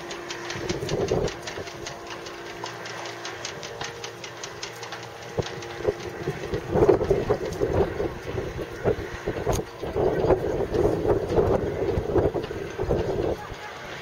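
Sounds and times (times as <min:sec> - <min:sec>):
wind buffeting microphone: 0:00.0 - 0:02.9, 0:03.6 - 0:14.0
boat engine humming: 0:00.0 - 0:14.0.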